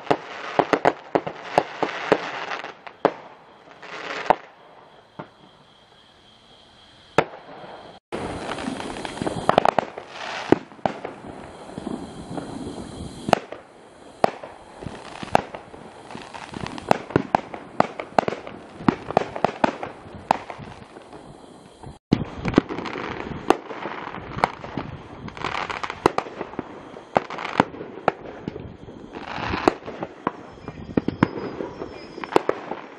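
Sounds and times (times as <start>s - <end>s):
fireworks bangs and crackling pops: 0.0s - 5.7s, 7.2s - 32.9s.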